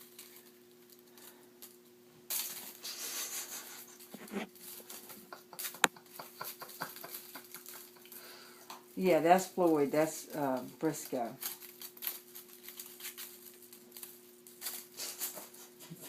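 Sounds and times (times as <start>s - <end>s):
kittens rustling and scratching: 0.0s - 16.0s
steady electrical hum: 0.0s - 16.0s.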